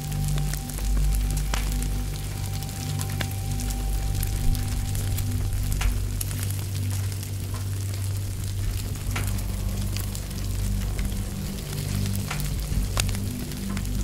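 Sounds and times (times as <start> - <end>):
fire crackling and popping: 0.0 - 14.0
low droning music: 0.0 - 14.0.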